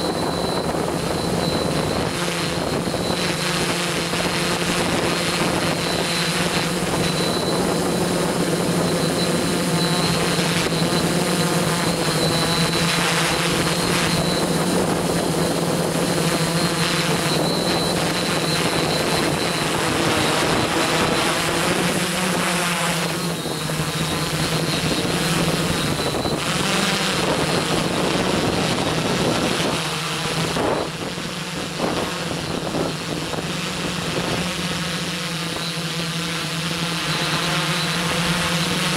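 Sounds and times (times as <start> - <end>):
drone propellers buzzing: 0.0 - 38.9
high whine: 0.0 - 38.9.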